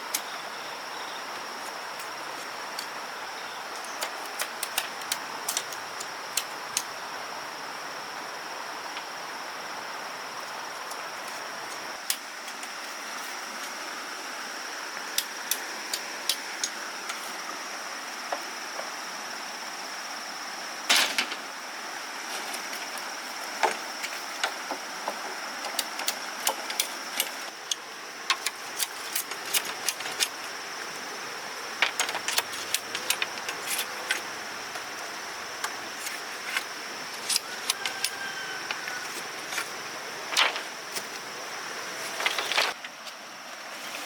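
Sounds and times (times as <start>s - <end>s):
high insect drone: 0.0s - 44.0s.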